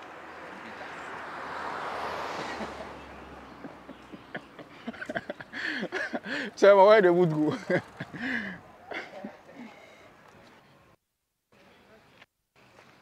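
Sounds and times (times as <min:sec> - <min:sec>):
vehicle road noise rumble: 0:00.0 - 0:11.0.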